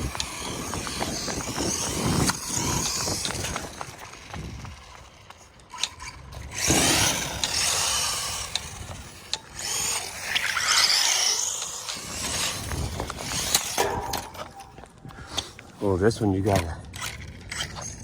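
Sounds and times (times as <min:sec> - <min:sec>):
electric rc car motor whining: 0:00.0 - 0:14.6, 0:16.9 - 0:18.0.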